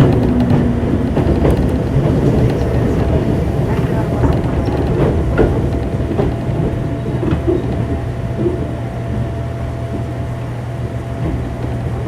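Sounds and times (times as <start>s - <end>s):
wheels clicking over rail joints: 0.0s - 10.6s
train running rumble: 0.0s - 12.0s.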